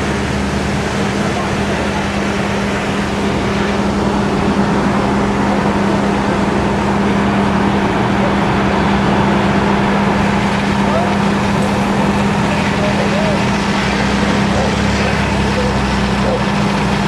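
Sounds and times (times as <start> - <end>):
fire truck engine humming: 0.0 - 17.0.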